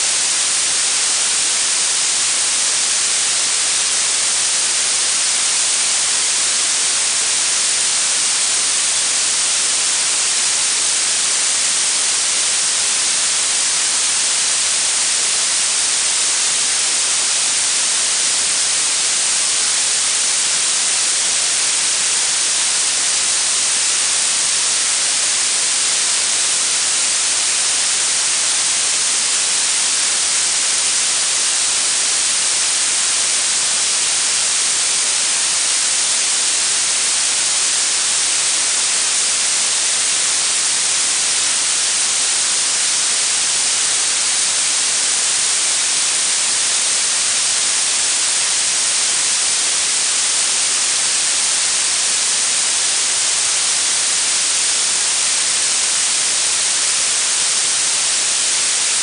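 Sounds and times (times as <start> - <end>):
steady high-pitched hiss: 0.0 - 59.0.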